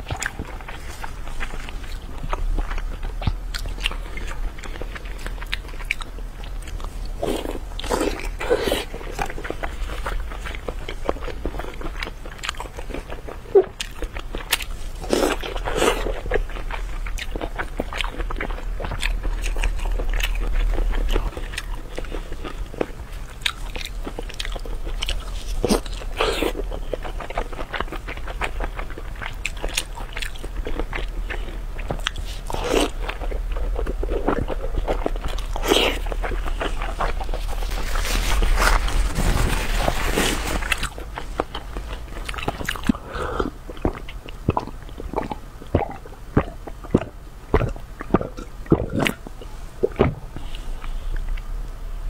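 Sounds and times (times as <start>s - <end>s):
crunchy chewing: 0.0s - 51.5s.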